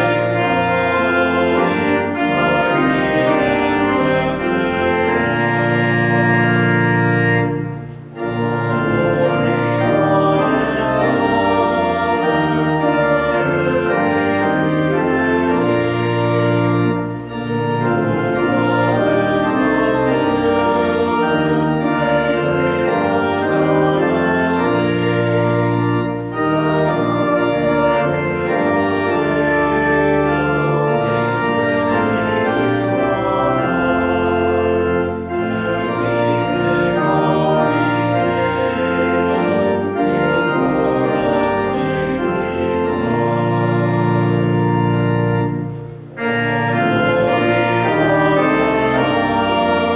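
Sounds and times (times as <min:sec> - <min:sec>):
church organ playing a hymn: 0:00.0 - 0:49.9.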